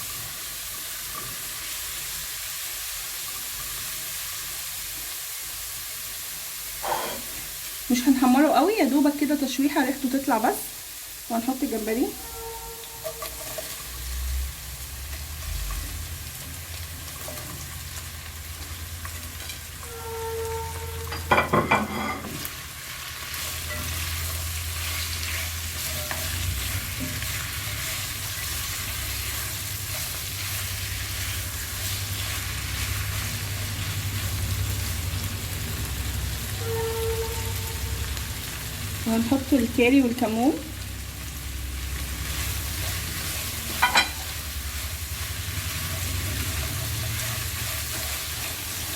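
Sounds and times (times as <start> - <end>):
shrimp sizzling in a pan: 0.0 - 48.9.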